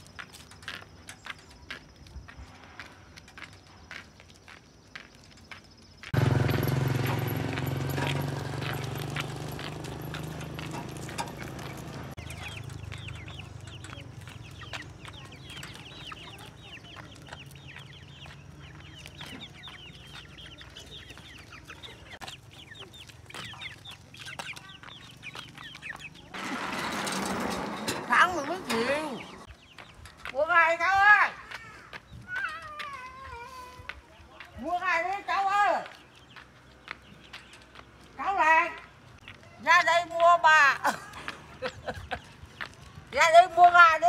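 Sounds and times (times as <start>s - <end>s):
chickens clucking and cheeping: 0.0s - 44.0s.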